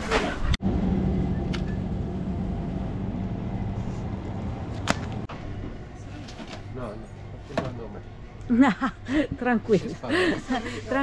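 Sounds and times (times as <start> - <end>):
low machine hum: 0.6 - 11.0.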